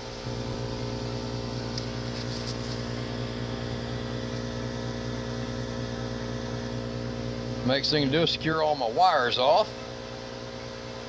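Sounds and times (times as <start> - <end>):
furnace blower hum: 0.0 - 11.0.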